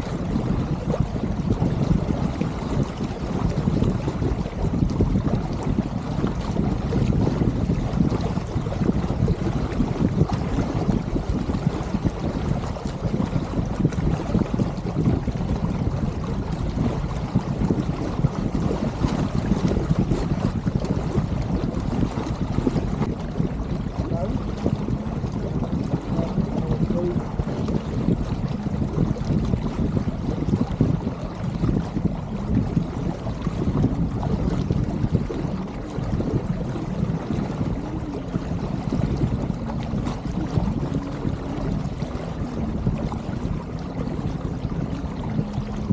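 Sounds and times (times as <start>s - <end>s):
water washing along hull: 0.0s - 45.9s
wind noise on microphone: 0.0s - 45.9s.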